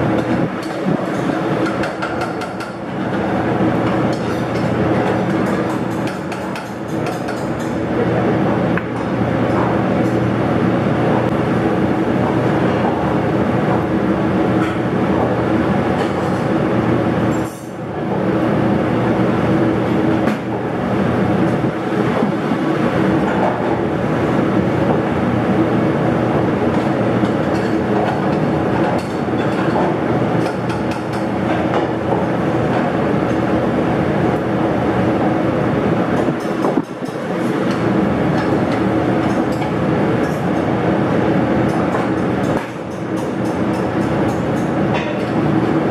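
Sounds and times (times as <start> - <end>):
exhaust hood fan humming: 0.0 - 45.9.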